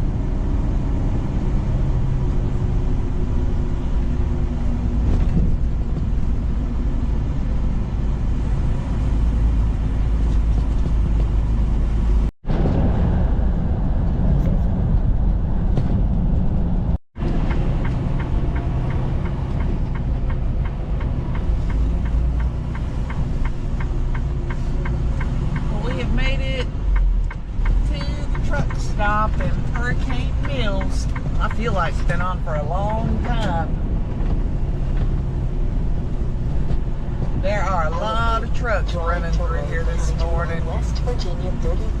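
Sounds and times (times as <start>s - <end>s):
diesel engine running: 0.0s - 42.0s
road rumble: 0.0s - 42.0s.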